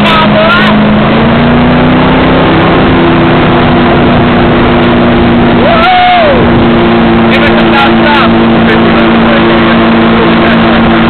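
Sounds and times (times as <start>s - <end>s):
boat engine running: 0.0s - 11.0s
rushing water: 0.0s - 11.0s
rushing wind: 0.0s - 11.0s.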